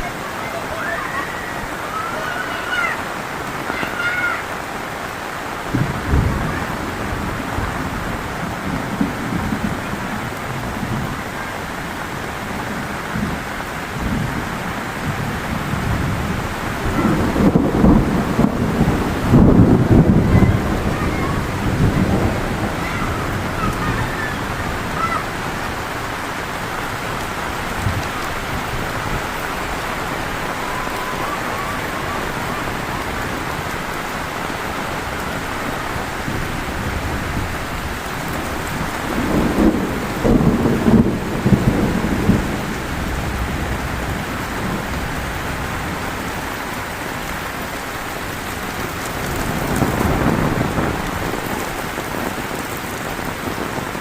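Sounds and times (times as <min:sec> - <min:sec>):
heavy rain falling: 0:00.0 - 0:54.0
low rumble of thunder: 0:05.7 - 0:54.0.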